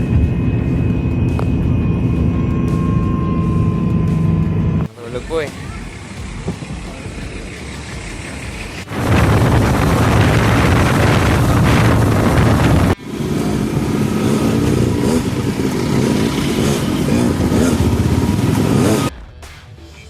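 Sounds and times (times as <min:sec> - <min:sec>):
road and wind noise: 0:00.0 - 0:19.1
steady engine hum: 0:00.0 - 0:19.1.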